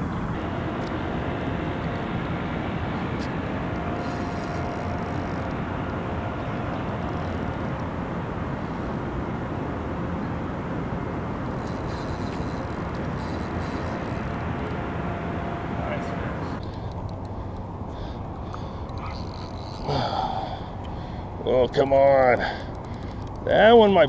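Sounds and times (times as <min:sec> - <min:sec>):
low outdoor ambient rumble: 0:00.0 - 0:24.0.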